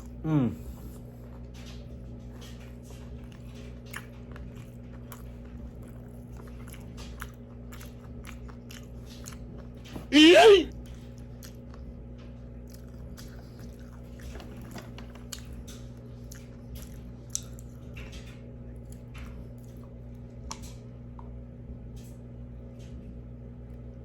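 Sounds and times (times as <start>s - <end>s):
person chewing with wet smacks: 0.0s - 21.4s
faint steady hum: 0.0s - 24.0s.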